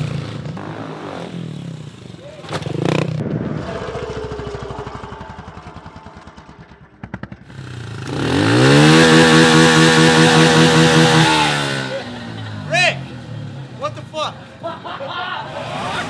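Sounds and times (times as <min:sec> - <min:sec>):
pit bike engine running: 0:00.0 - 0:14.5
pit bike engine revving: 0:00.0 - 0:16.0.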